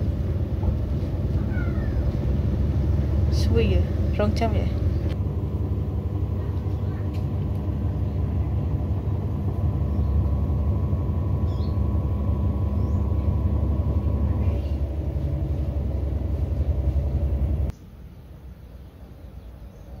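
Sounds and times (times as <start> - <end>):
washing machine spinning: 0.0 - 17.7.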